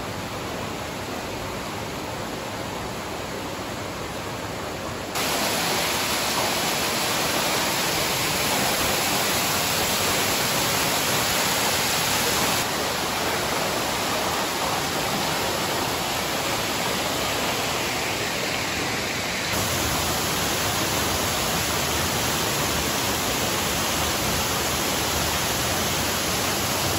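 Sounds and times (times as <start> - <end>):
water rushing over rock: 5.2 - 26.9.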